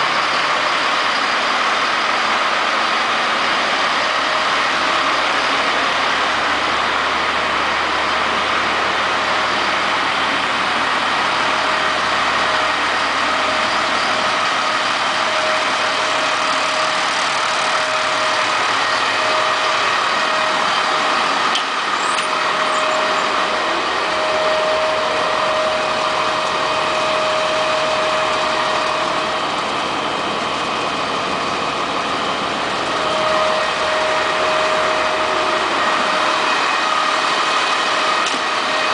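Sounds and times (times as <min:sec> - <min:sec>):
fire engine idling: 0:00.0 - 0:38.9
thin whine: 0:00.0 - 0:38.9.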